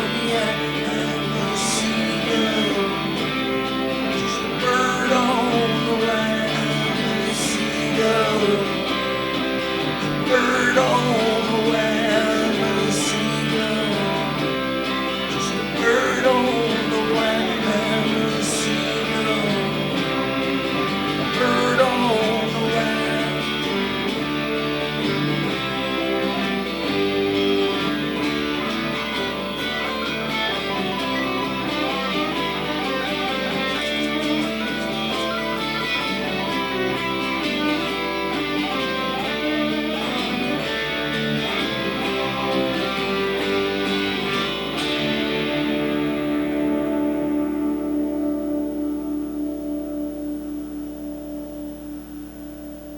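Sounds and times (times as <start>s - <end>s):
strummed guitars: 0.0s - 52.9s.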